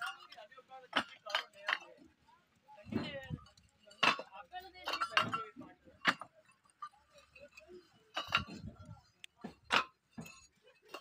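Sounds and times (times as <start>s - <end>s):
bricks clinking and knocking: 0.0s - 2.0s, 2.8s - 11.0s.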